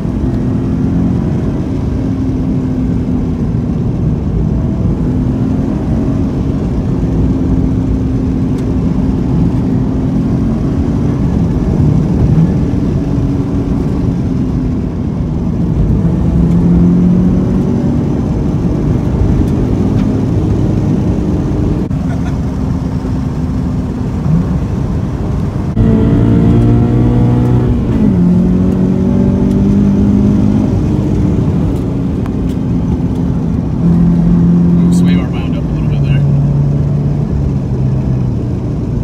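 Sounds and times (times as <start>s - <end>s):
car engine accelerating: 0.0s - 39.0s
tyre and road rumble: 0.0s - 39.0s.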